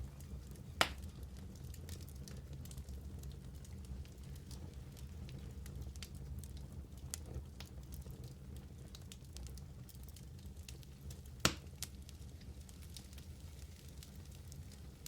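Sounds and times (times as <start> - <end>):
low steady fire rumble: 0.0 - 15.0
wood fire crackling and popping: 0.0 - 15.0.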